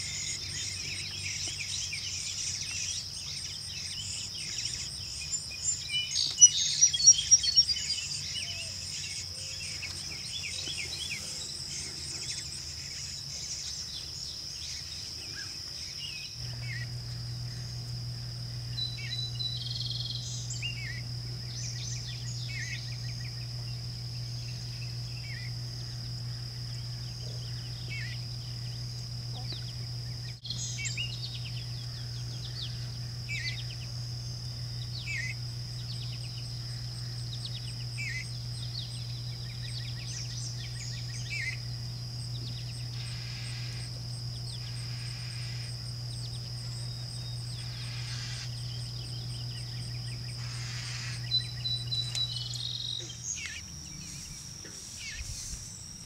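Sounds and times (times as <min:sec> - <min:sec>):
high insect trill: 0:00.0 - 0:56.0
low steady hum: 0:00.0 - 0:56.0
songbird chirping: 0:00.0 - 0:56.0.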